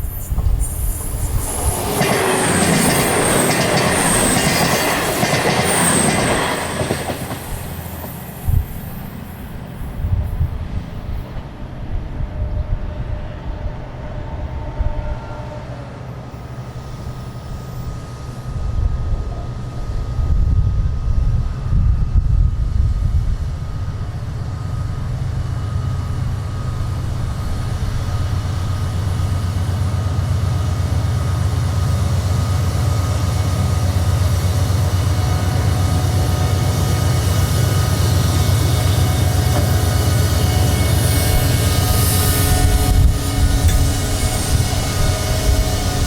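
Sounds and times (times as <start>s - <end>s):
freight train rumbling: 0.0s - 46.0s.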